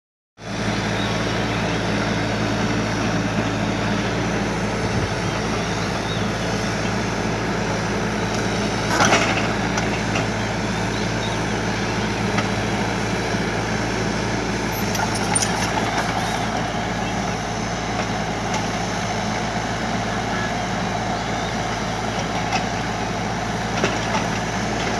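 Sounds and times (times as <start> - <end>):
excavator diesel engine running: 0.4 - 24.9.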